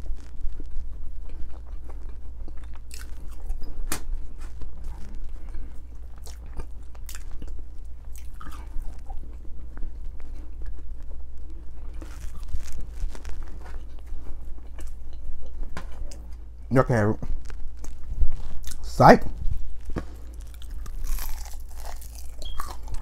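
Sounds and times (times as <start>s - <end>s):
person chewing fries: 0.0s - 16.5s, 17.4s - 18.9s, 19.5s - 23.0s
steady low hum: 0.0s - 23.0s.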